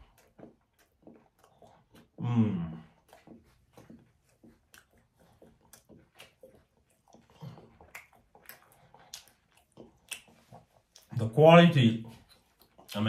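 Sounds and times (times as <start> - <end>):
chewing bread with crunching: 0.0 - 13.0.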